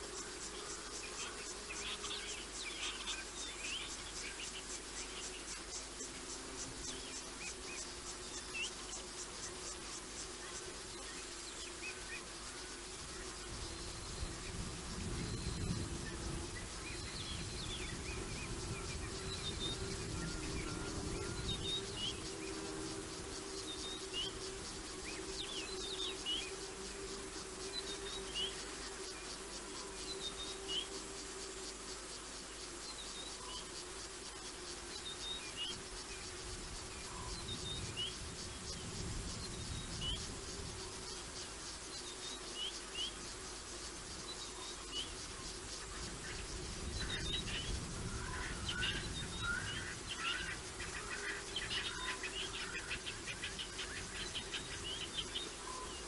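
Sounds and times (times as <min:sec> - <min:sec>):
fast insect chirring: 0:00.0 - 0:56.0.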